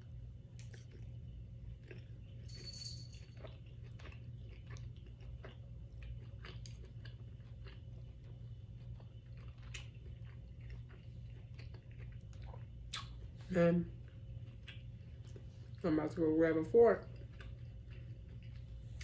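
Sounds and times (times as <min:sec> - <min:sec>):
chewing and wet mouth sounds: 0:00.0 - 0:02.6, 0:03.2 - 0:15.9, 0:16.9 - 0:19.0
low hum: 0:00.0 - 0:19.0.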